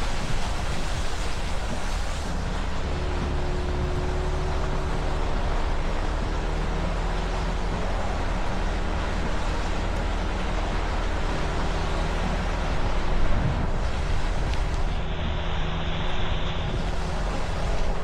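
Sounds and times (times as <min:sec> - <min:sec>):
low engine hum: 0:00.0 - 0:18.0
road and tyre noise: 0:00.0 - 0:18.0.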